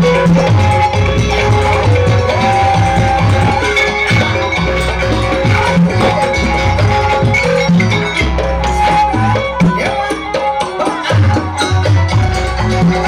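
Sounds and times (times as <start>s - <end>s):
traditional ensemble melody: 0.0s - 13.0s.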